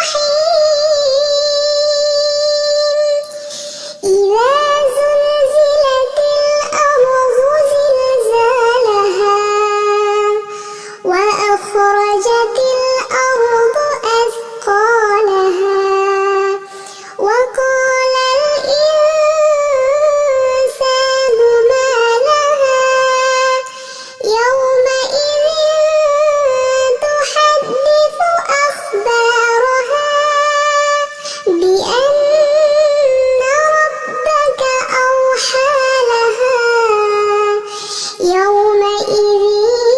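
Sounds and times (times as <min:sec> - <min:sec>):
high-pitched voice chanting: 0:00.0 - 0:39.9.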